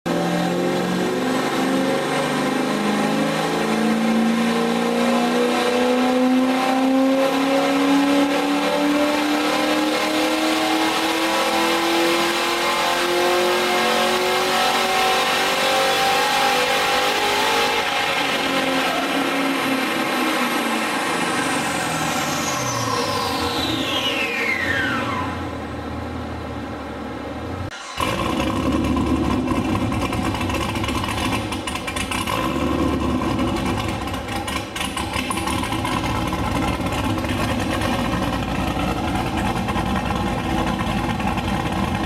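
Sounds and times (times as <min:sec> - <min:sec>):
car engine revving at full throttle: 0:00.1 - 0:26.5, 0:27.6 - 0:42.0
high whine of dyno rollers: 0:00.1 - 0:42.0.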